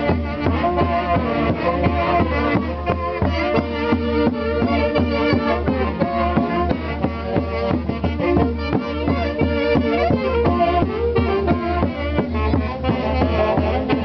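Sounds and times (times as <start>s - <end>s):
band playing traditional music: 0.0s - 14.0s
violin lead: 0.0s - 14.0s.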